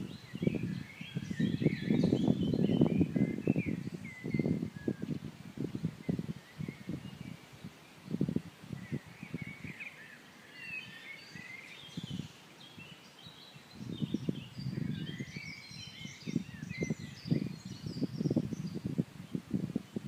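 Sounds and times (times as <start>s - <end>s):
birds chirping and singing: 0.0s - 19.5s.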